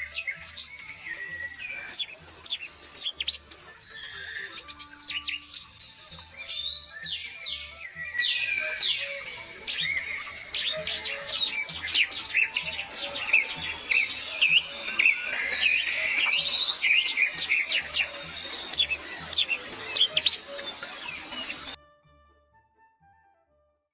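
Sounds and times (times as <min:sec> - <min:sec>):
birds chirping: 0:00.0 - 0:21.8
background music with steady beat: 0:00.0 - 0:23.2.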